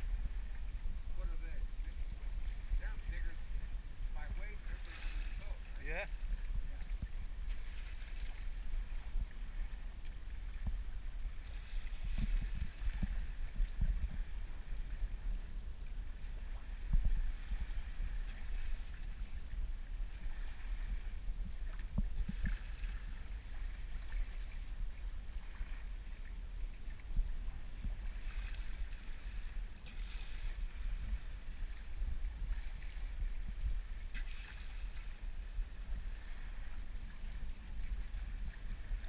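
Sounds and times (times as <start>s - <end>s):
water rushing along a hull: 0.0s - 39.0s
wind buffeting the microphone: 0.0s - 39.0s.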